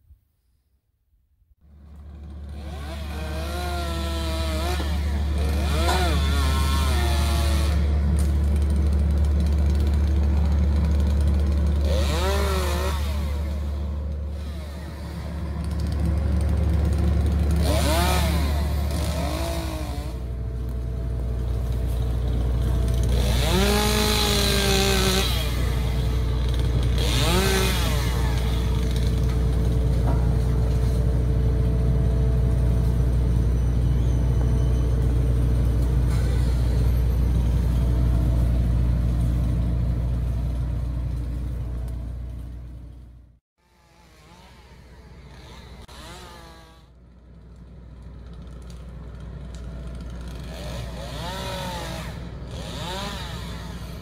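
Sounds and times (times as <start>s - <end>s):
diesel engine droning: 1.6s - 54.0s.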